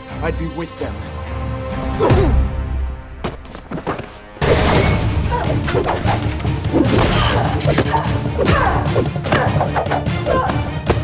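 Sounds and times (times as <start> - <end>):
dramatic action music: 0.0 - 11.0.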